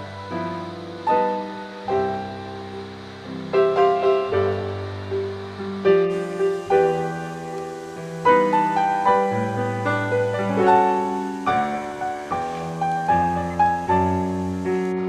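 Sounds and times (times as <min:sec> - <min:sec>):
calm piano music: 0:00.0 - 0:15.0.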